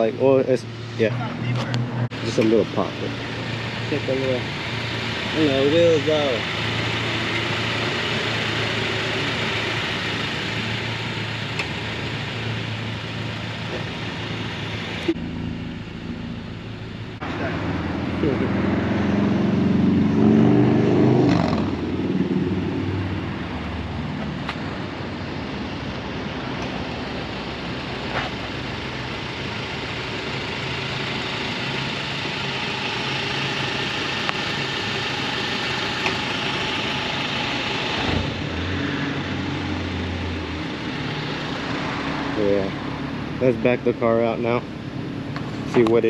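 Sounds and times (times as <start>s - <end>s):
car engine revving and running: 0.0s - 46.0s.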